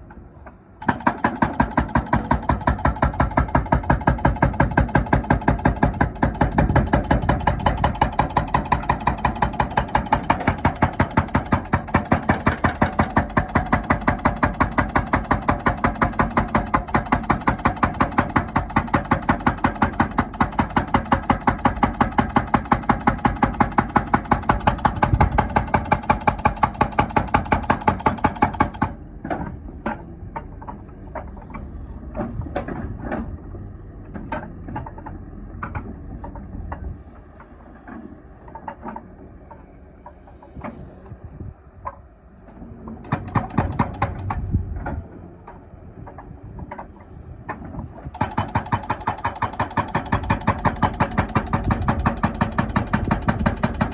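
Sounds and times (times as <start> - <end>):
clanks and knocks: 0.0 - 33.4, 34.0 - 40.9, 41.8 - 53.9
hydraulic rock breaker hammering: 0.8 - 33.4, 41.8 - 53.9.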